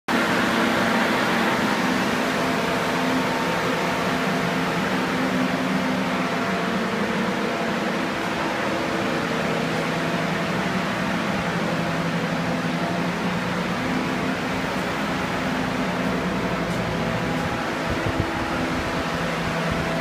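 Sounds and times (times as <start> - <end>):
blower fan whirring: 0.1 - 20.0.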